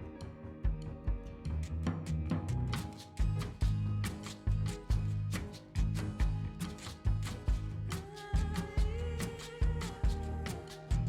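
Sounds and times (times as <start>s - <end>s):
background music with fast beat: 0.0s - 11.0s.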